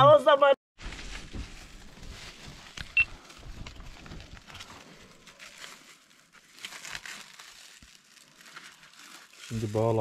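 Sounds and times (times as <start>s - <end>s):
sacking rustling: 0.8s - 10.0s.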